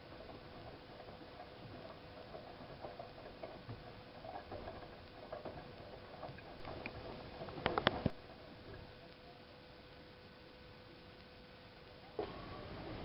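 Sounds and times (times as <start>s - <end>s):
washing machine hum: 0.0s - 13.0s.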